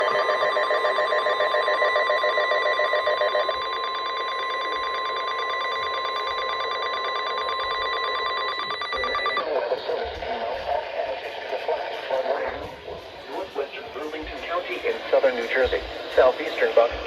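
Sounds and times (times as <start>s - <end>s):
steady warning alert tone: 0.0s - 17.0s.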